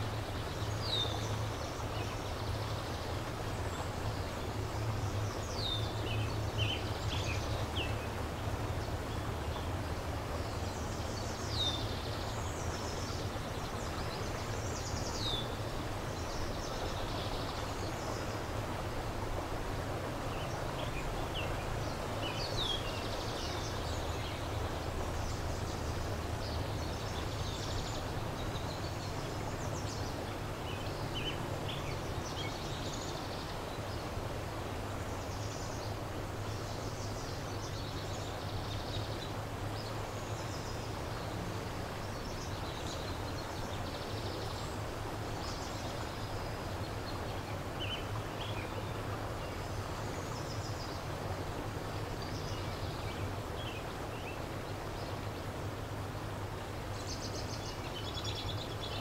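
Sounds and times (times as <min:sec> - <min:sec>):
river rushing: 0:00.0 - 0:59.0
songbirds chirping: 0:00.0 - 0:59.0.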